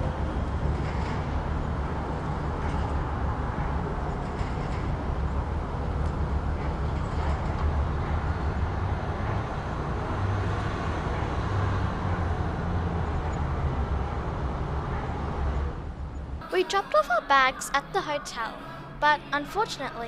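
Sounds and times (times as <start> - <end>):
road noise: 0.0 - 16.5.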